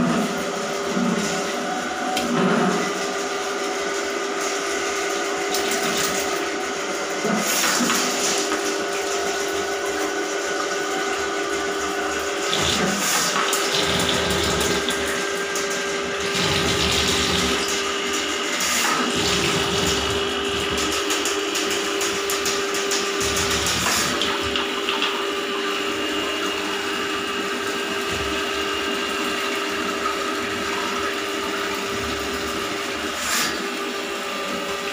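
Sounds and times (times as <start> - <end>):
drain-cleaning machine motor hum: 0.0 - 34.9.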